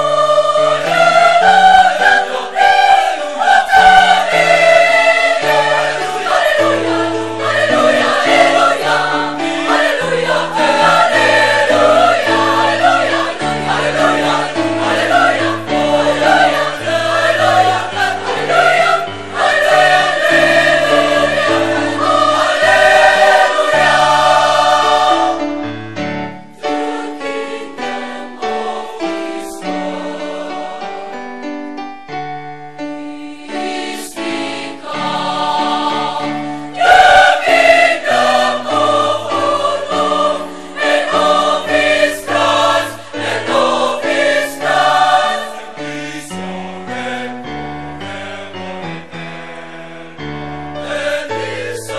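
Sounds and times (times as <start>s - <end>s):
choir singing: 0.0s - 31.4s, 33.0s - 51.9s.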